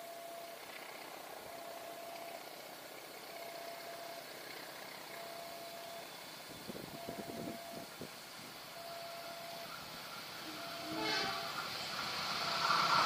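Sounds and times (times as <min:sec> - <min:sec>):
diesel locomotive hum: 0:00.0 - 0:13.0
level crossing warning alarm: 0:00.0 - 0:13.0.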